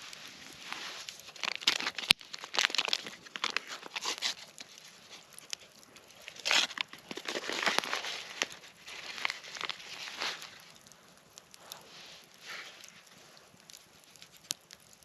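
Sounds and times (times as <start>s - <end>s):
crinkling of dry material: 0.0s - 15.0s.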